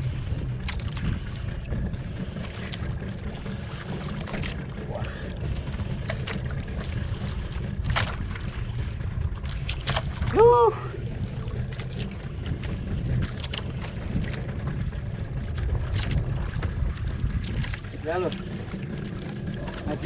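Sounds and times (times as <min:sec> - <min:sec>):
sea water lapping: 0:00.0 - 0:20.0
wind on microphone: 0:00.0 - 0:20.0.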